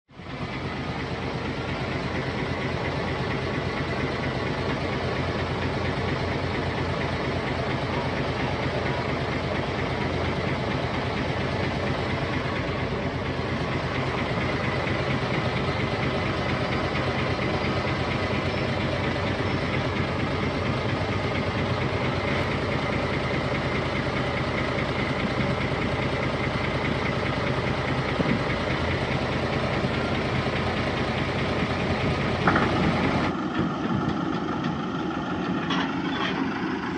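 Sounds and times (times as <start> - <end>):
diesel engine running steadily: 0.1 - 36.9.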